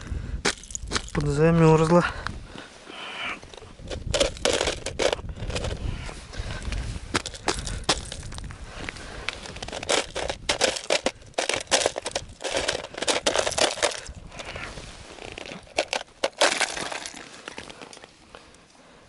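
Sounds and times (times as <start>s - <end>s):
ice crunching and cracking: 0.4s - 2.0s, 3.4s - 18.5s.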